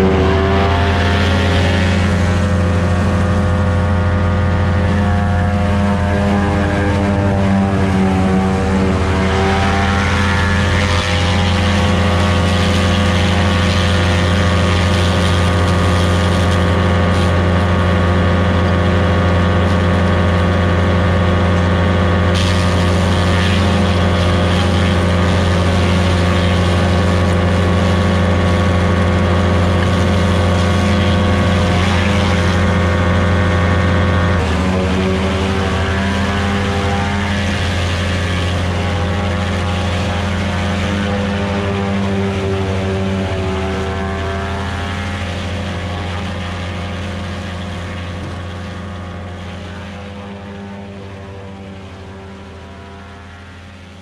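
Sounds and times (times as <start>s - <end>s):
farm engine running: 0.0s - 54.0s.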